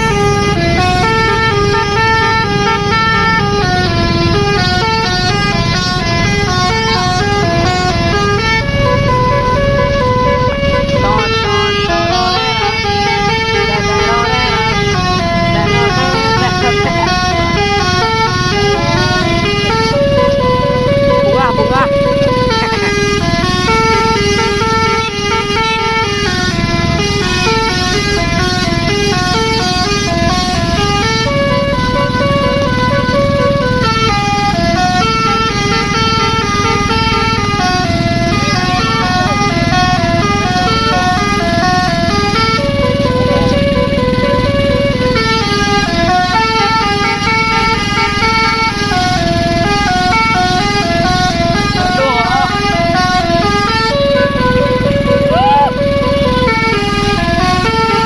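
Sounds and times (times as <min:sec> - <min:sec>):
low engine rumble: 0:00.0 - 0:58.0
musical air horn melody: 0:00.0 - 0:58.0.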